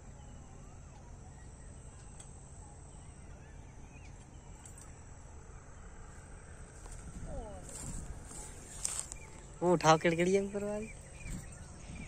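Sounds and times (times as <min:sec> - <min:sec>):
faint bird chirps: 0:00.0 - 0:12.0
insect drone: 0:00.0 - 0:12.0.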